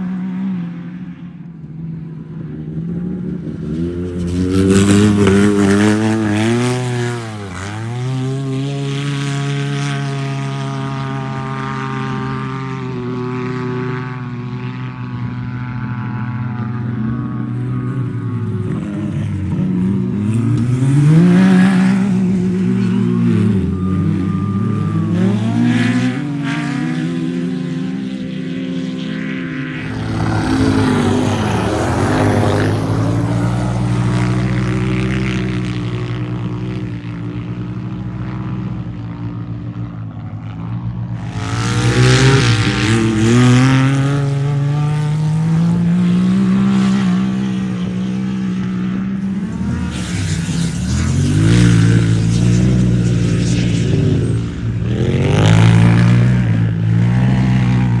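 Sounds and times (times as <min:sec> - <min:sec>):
race vehicle engines revving past: 0:03.2 - 0:14.3, 0:16.6 - 0:37.1, 0:41.2 - 0:58.0.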